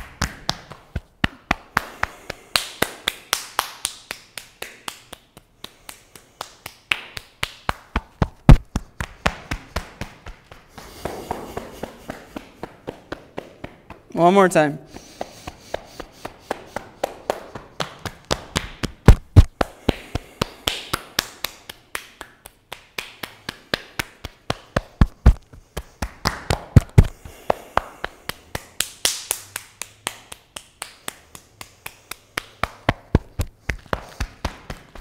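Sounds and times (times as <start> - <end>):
hands slapping body: 0.0 - 14.1, 15.0 - 35.0.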